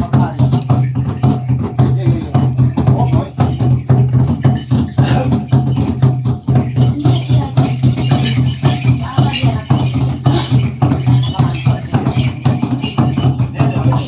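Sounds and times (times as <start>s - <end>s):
drum beaten in fast rhythm: 0.0s - 14.0s.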